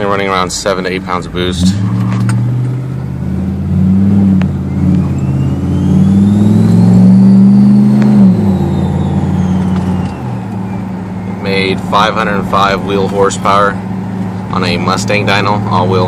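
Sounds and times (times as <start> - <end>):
car engine accelerating: 0.0 - 16.0
turbo whine: 1.7 - 15.4.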